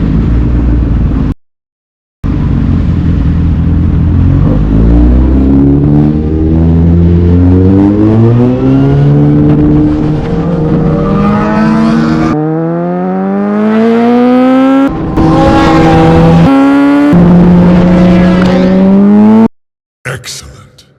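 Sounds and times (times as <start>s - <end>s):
motorcycle engine accelerating: 2.3s - 19.5s.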